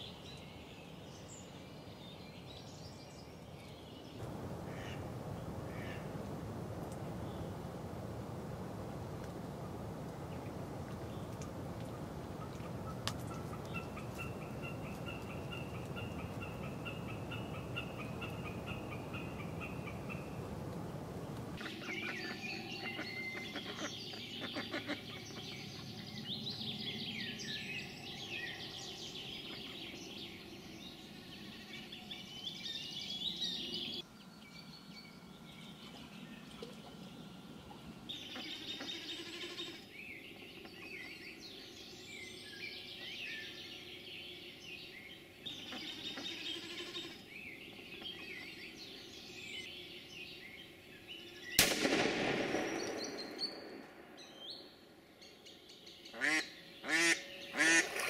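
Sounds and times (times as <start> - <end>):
chorus of bird chirps and songs: 0.0 - 7.9, 9.2 - 58.0.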